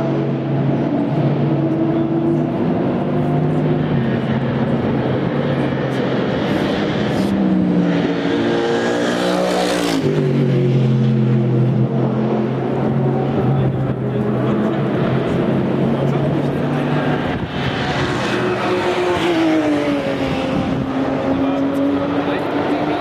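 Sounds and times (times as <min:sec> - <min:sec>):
racing car engines passing: 0:00.0 - 0:23.0.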